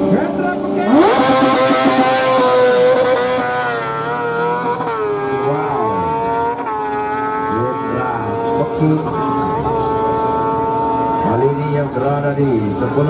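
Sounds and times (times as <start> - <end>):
motorcycle accelerating hard: 0.0 - 13.0.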